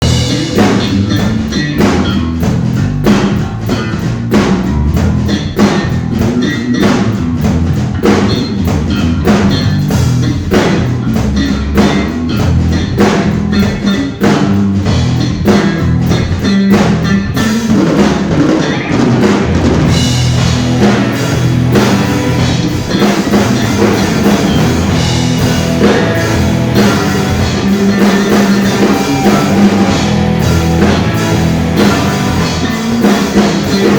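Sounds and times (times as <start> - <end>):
loud drum kit: 0.0 - 33.9
rock band playing live: 0.0 - 33.9.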